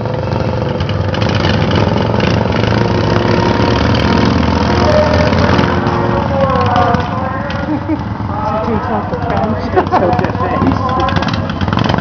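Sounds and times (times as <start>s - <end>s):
lawn mower engines droning: 0.0s - 12.0s.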